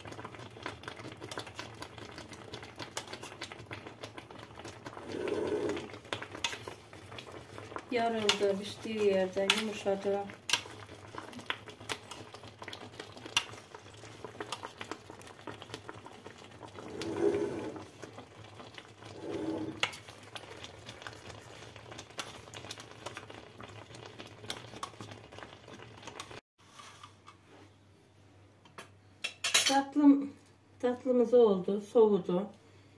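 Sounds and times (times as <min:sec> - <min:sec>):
syrup simmering bubbling crackle: 0:00.0 - 0:26.4.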